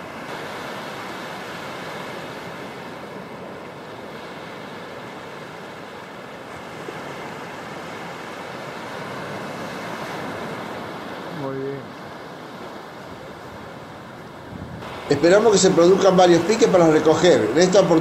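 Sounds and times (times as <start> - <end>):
surf waves washing onto sand: 0.0 - 18.0
wind: 0.0 - 18.0.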